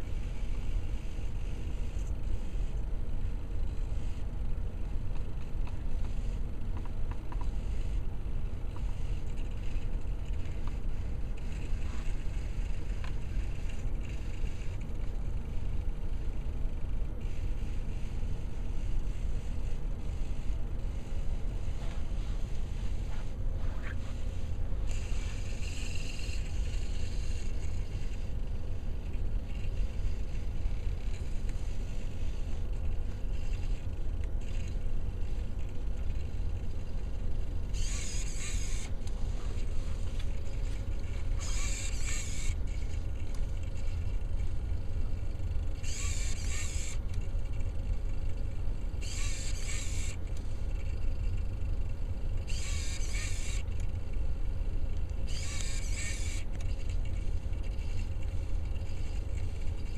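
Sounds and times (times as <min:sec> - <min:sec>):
servos whirring: 0:00.0 - 0:59.9.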